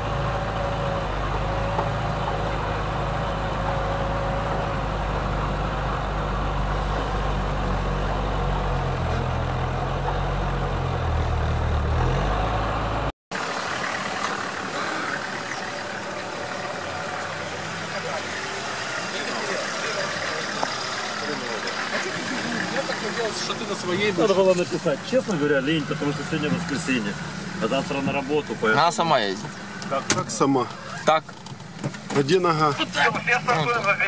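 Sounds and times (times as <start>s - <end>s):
vehicle engine idling: 0.0s - 34.0s
vehicle engine running: 0.0s - 34.0s.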